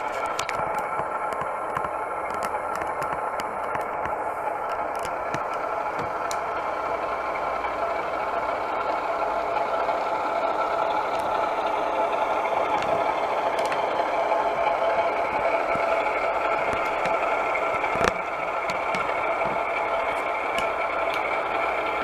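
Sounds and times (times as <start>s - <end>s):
model train engine sound: 0.0s - 22.0s.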